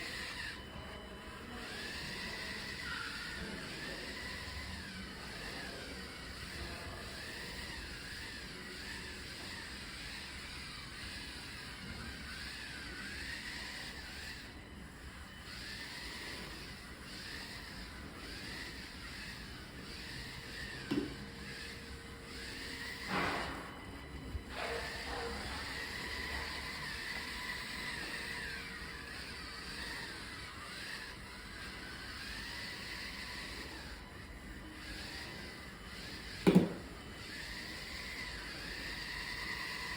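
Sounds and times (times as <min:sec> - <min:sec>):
toy car motor whining: 0:00.0 - 0:39.9.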